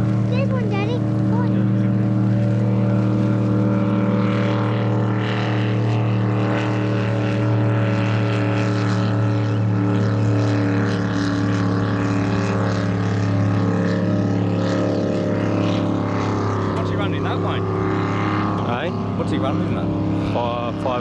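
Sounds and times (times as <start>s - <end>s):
powerboat engine at high speed: 0.0s - 21.0s.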